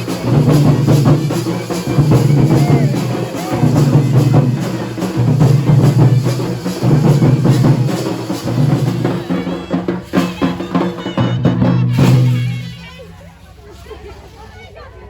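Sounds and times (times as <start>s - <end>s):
dhol drums played fast: 0.0s - 13.0s.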